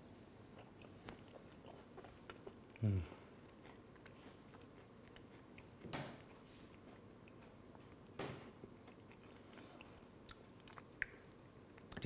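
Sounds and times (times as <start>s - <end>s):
person chewing crunchy food: 0.5s - 11.9s.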